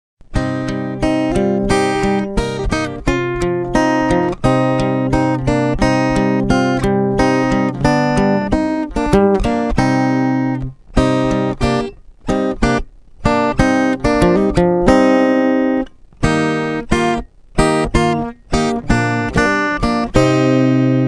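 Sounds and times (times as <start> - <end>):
acoustic guitar chords: 0.2 - 21.0.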